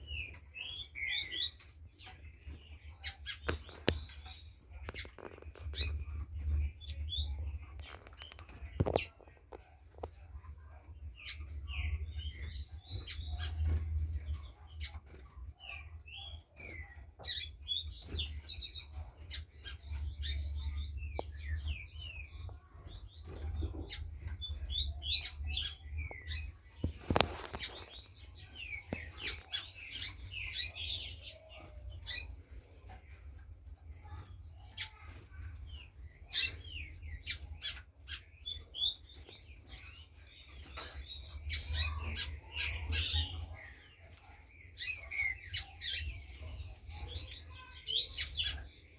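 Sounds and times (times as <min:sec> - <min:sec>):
bird chirping and trilling: 0:00.0 - 0:09.2, 0:11.2 - 0:32.3, 0:34.0 - 0:44.0.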